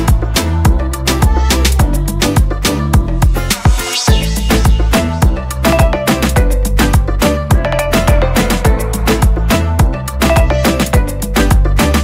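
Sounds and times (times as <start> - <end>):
upbeat music with drums and bass: 0.0 - 12.0.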